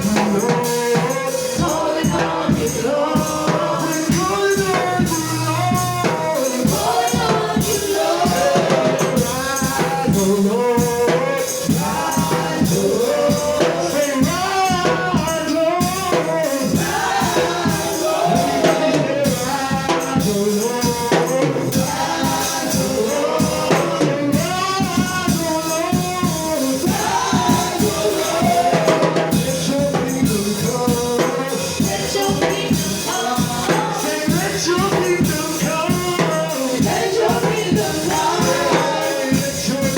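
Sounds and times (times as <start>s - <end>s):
band with steady percussion: 0.0s - 39.9s
voices singing: 0.0s - 39.9s.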